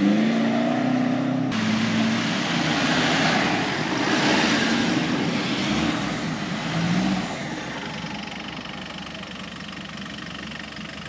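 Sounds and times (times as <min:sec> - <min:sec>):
off-road vehicle engine roaring: 0:00.0 - 0:11.0.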